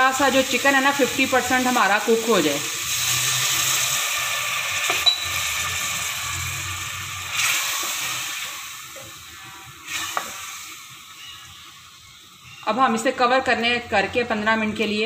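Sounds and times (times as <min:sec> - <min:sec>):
food sizzling in a pot: 0:00.0 - 0:13.1.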